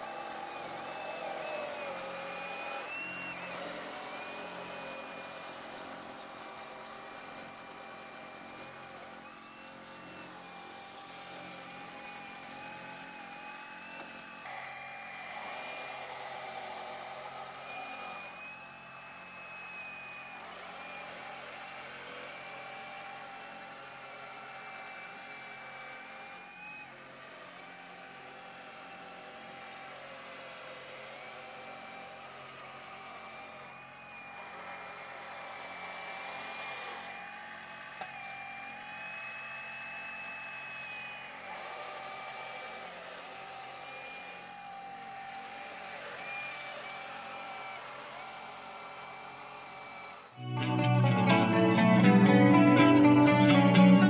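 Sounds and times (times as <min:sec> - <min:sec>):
model loader motor whine: 0:00.0 - 0:50.5.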